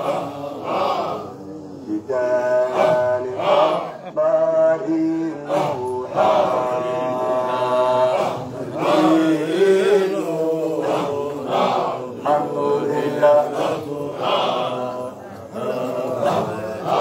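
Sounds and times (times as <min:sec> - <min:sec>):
man chanting through microphone: 0:00.0 - 0:17.0.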